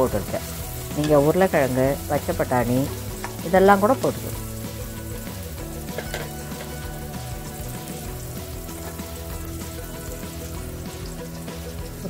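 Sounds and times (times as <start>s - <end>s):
background music: 0.0s - 12.0s
onions sizzling in a pan: 0.0s - 12.0s.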